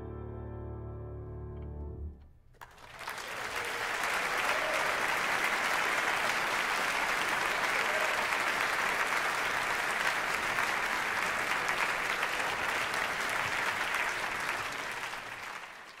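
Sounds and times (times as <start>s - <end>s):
audience applauding: 2.6s - 16.0s.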